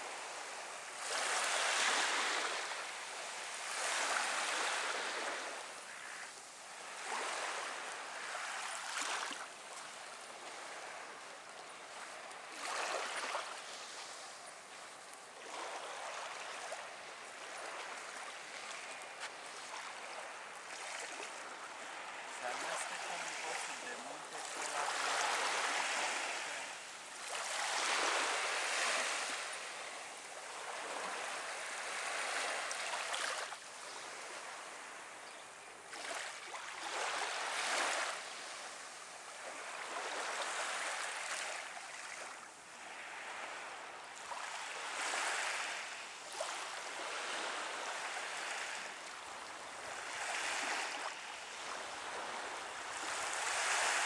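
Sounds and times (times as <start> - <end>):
small waves washing on sand: 0.0 - 54.0.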